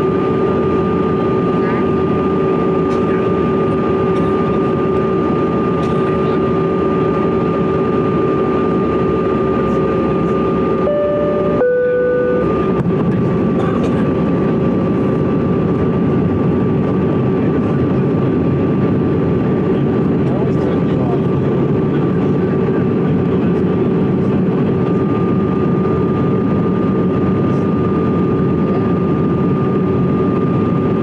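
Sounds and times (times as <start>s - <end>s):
jet engine whine: 0.0s - 31.0s.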